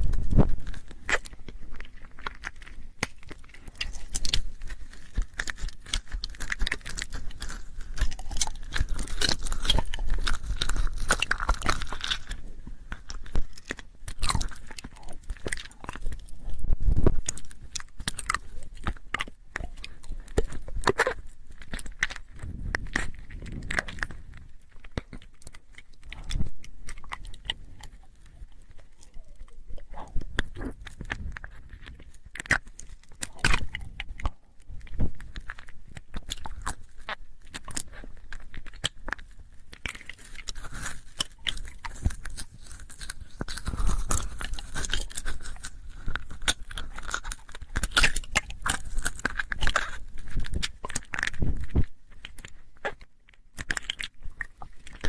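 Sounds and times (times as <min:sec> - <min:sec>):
wet mouth clicks and smacks: 0:00.0 - 0:55.0.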